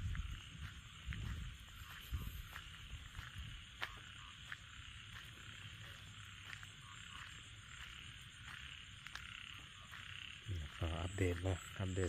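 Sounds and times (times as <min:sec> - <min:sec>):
frog croaks: 0:00.0 - 0:12.0
frogs trilling: 0:00.0 - 0:12.0.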